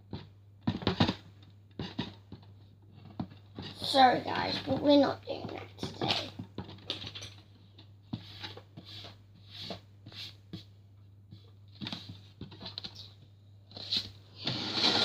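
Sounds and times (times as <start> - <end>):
dough tapping and rustling: 0.0 - 14.2.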